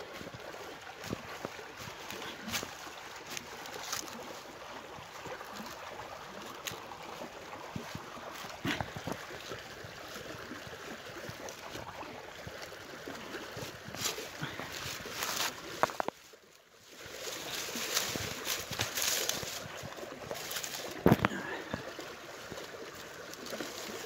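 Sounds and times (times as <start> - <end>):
dry leaves and twigs rustling: 0.0 - 24.0
stream rushing: 0.0 - 24.0.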